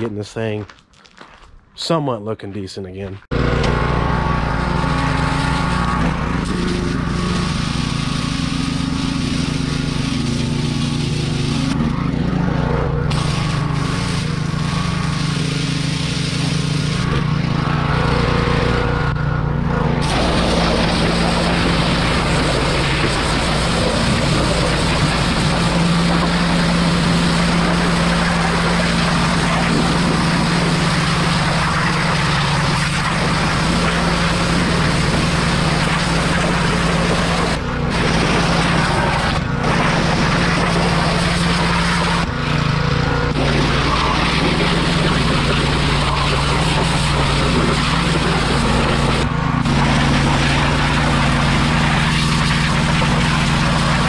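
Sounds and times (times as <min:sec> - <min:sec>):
pressure washer engine running: 0:03.2 - 0:54.0.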